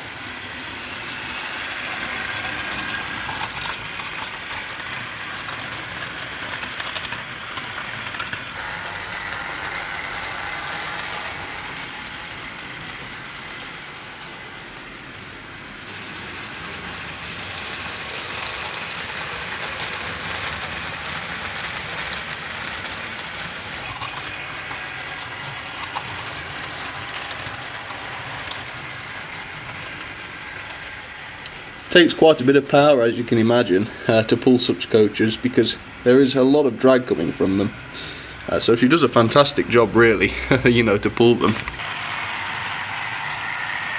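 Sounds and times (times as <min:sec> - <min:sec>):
model train wheels clattering: 0:00.0 - 0:15.0, 0:15.9 - 0:35.7, 0:40.6 - 0:43.9
model train motors whirring: 0:00.0 - 0:43.9.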